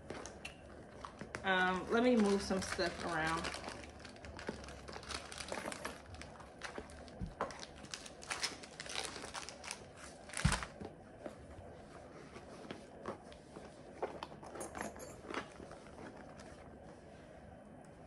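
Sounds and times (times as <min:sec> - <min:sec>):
items rustling in handbag: 0:00.0 - 0:17.4.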